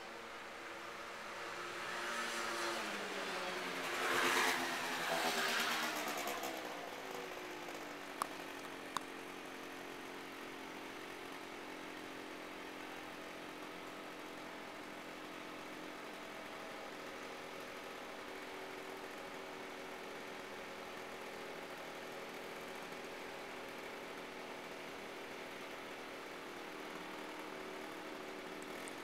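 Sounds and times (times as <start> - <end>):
scooter engine: 1.2 - 29.0.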